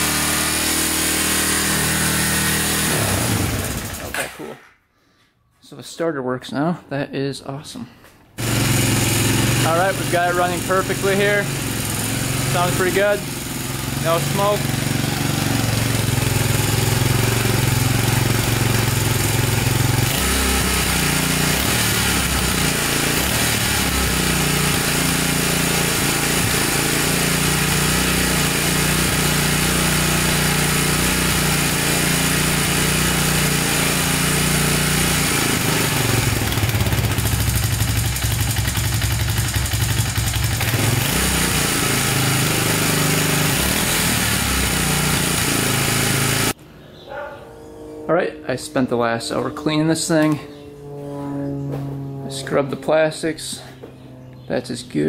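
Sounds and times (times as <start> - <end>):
atv engine running: 0.0 - 4.3, 8.4 - 55.0.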